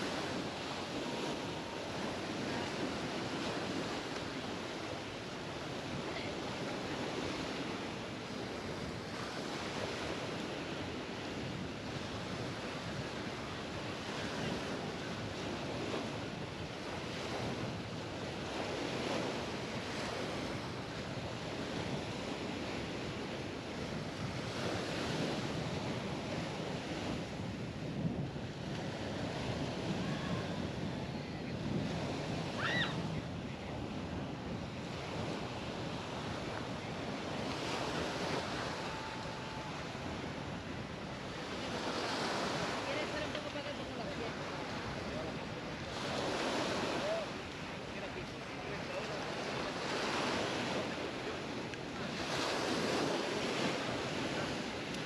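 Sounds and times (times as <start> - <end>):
waves washing onto beach: 0.0 - 55.0
wind rumbling on microphone: 0.0 - 55.0.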